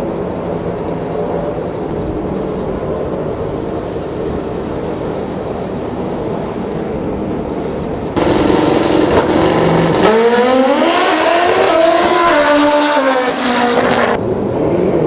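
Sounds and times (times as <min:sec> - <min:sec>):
motorcycle engines rumbling: 0:00.0 - 0:15.0
motorcycle engine revving up: 0:02.4 - 0:15.0.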